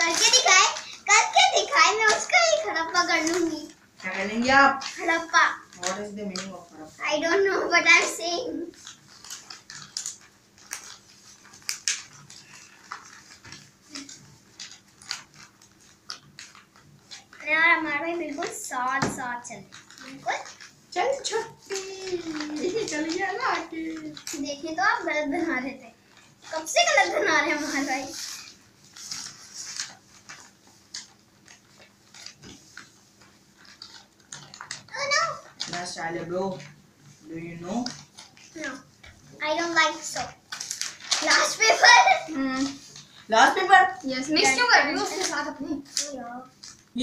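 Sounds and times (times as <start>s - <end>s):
stiff paper crinkling and rustling: 0.0s - 47.0s.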